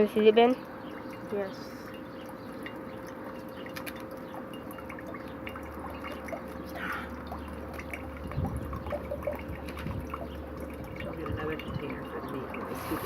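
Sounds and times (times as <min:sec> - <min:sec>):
coconut water dripping into container: 0:00.0 - 0:13.0.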